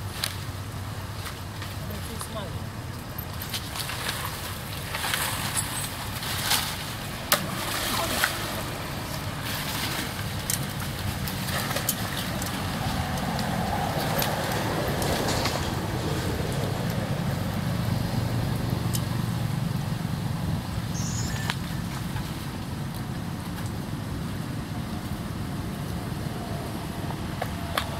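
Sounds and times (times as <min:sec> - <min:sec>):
distant road traffic rumble: 0:00.0 - 0:27.9
light water splashes: 0:00.2 - 0:26.0.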